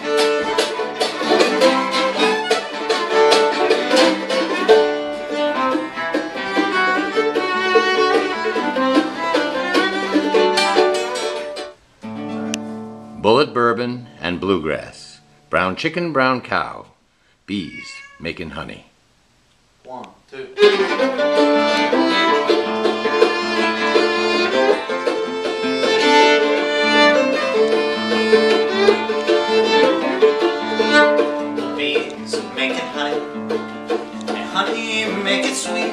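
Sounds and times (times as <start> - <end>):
picked banjo: 0.0 - 15.8, 20.6 - 35.9
fiddle playing bluegrass tune: 0.0 - 16.4, 20.5 - 35.9
acoustic guitar strumming chords: 0.0 - 16.8, 20.6 - 35.9.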